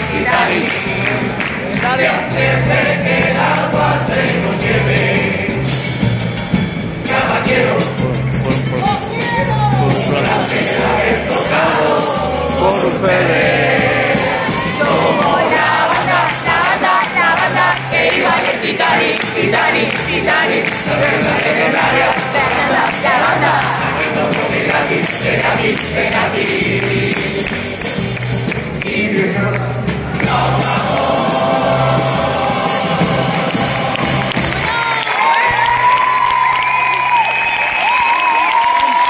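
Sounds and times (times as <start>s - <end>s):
group singing in chorus: 0.0s - 6.0s, 7.0s - 8.8s, 9.8s - 27.9s, 28.5s - 34.7s
steady drum beat: 0.0s - 36.0s.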